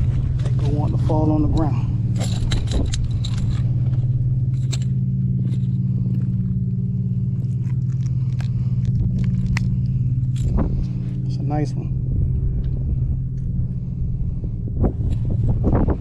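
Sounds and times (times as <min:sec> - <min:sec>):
idling motor hum: 0:00.0 - 0:16.0.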